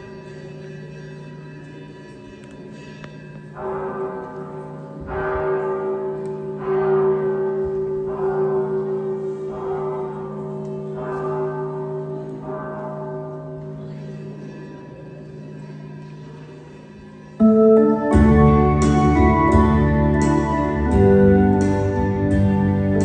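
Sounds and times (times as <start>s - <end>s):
church bell tolling: 0.0s - 23.0s.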